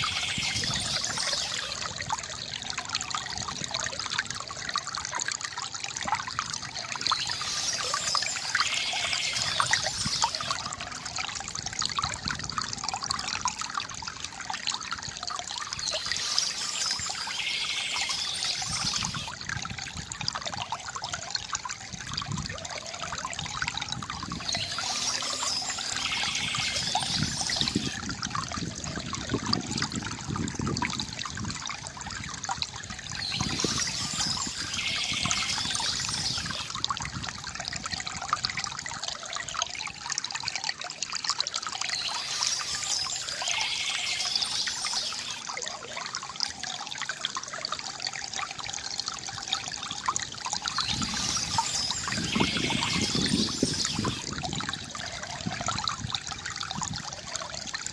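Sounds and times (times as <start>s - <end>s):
water trickling from bamboo fountain: 0.0s - 57.9s.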